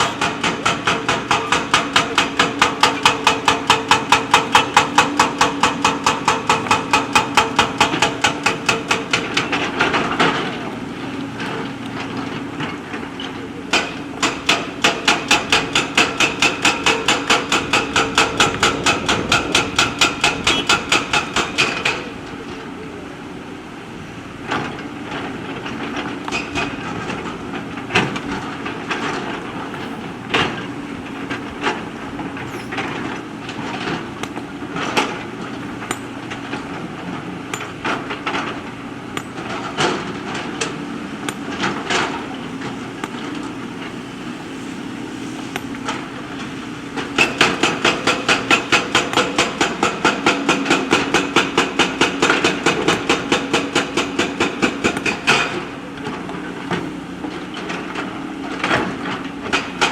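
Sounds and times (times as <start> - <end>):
rapid hydraulic hammering: 0.0 - 22.4, 24.6 - 55.8, 56.6 - 59.9
diesel engine running: 0.0 - 59.9.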